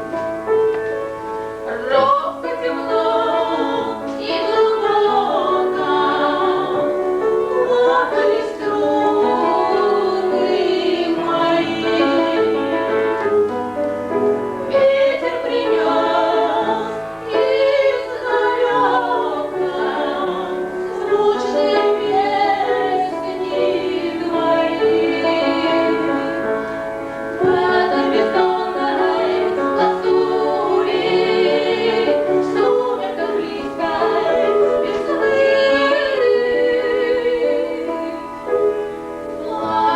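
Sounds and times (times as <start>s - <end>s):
women singing operatic style: 1.6s - 13.2s, 14.7s - 26.7s, 27.4s - 38.5s, 39.2s - 39.9s.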